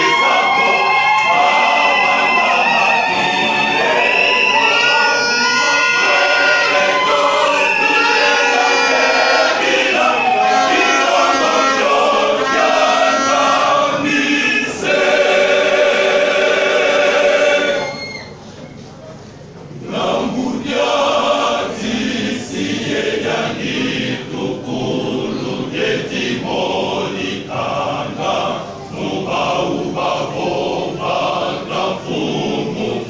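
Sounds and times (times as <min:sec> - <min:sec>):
choir singing: 0:00.0 - 0:18.3, 0:19.7 - 0:33.0.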